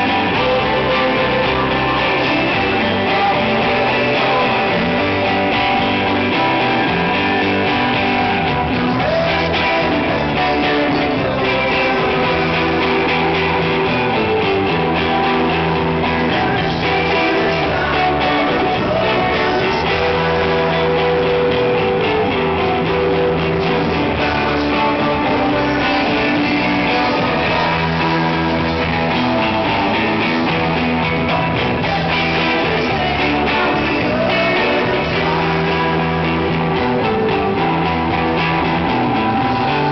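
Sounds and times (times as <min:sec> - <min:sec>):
live rock band playing: 0:00.0 - 0:39.9
man singing lead vocal: 0:00.0 - 0:39.9.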